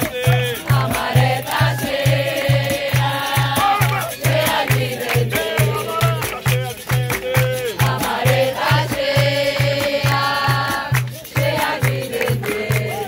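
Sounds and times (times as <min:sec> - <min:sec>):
group singing: 0:00.0 - 0:13.0
hand clapping: 0:00.0 - 0:13.0
hand drum beat: 0:00.0 - 0:13.0.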